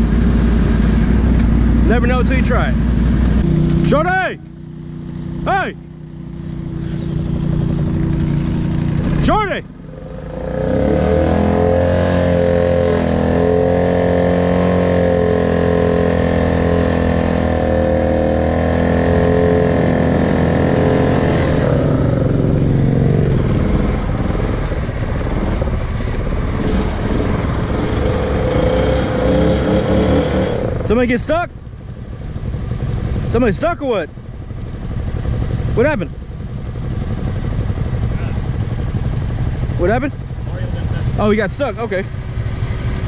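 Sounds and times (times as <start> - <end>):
atv engine running: 0.0 - 43.0.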